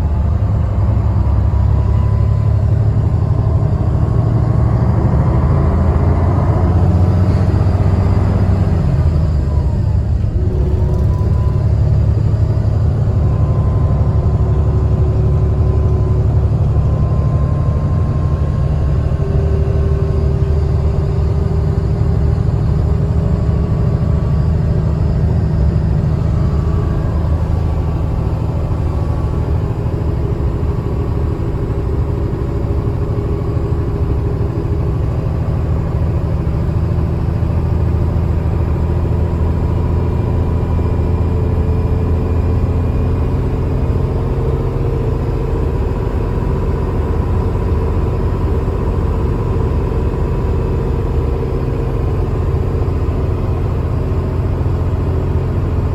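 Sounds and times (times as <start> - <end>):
bus diesel engine rumbling: 0.0 - 55.9.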